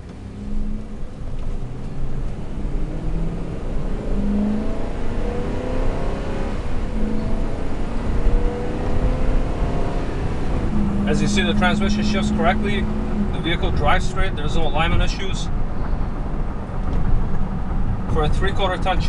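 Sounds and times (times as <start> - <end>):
truck engine accelerating: 0.0 - 19.0.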